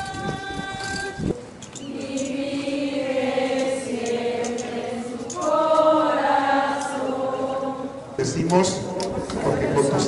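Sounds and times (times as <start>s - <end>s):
group singing a hymn: 0.0s - 8.4s, 9.1s - 10.0s.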